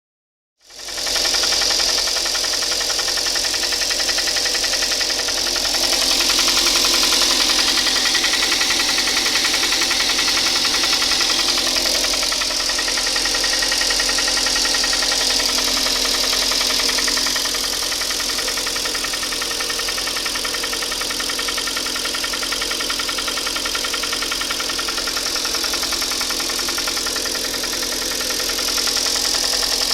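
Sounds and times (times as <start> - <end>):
rapid engine knock: 0.6 - 29.9
car engine running: 0.7 - 29.9.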